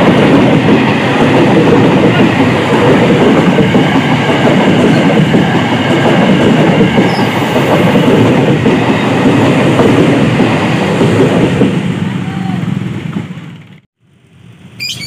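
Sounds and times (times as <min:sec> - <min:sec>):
electric train wheels rumbling on rails: 0:00.0 - 0:14.8.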